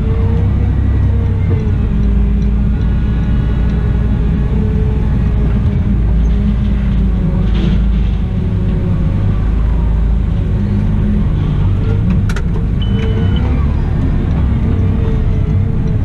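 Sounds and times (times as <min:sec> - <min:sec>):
wheel loader diesel engine running: 0:00.0 - 0:16.0.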